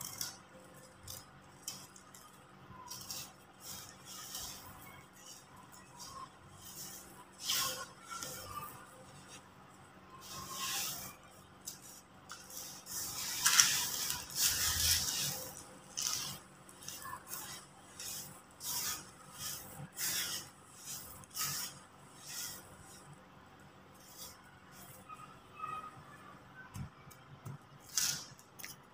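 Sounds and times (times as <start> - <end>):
dry earth crunching and sifting: 0.0 - 25.1.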